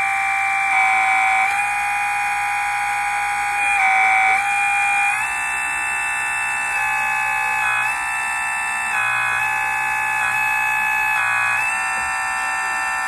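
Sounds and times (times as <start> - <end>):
electric hydraulic pump whining: 0.0 - 13.0.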